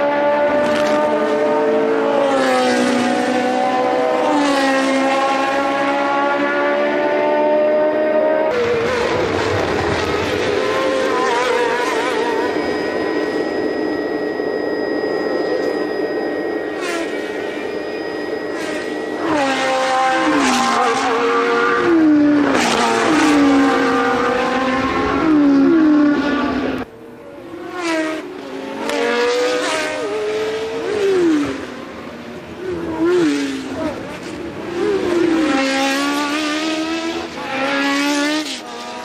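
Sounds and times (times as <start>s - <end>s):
race car engines passing by: 0.0s - 39.0s.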